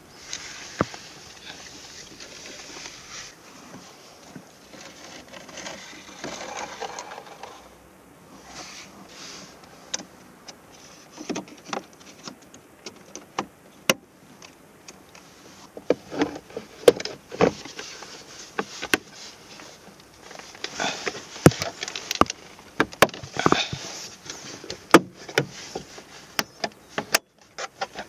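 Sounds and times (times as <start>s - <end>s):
rustling: 0.0s - 10.0s, 15.1s - 28.0s.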